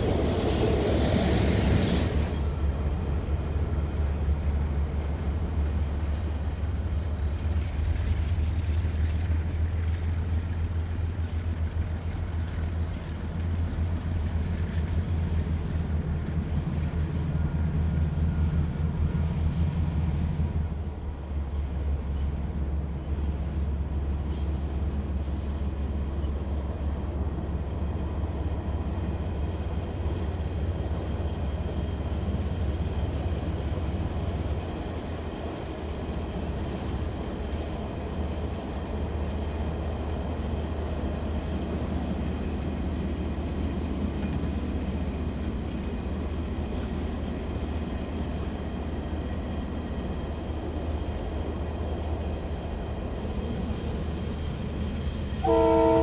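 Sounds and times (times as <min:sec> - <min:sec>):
wagons rumbling on rails: 0:00.0 - 0:56.0.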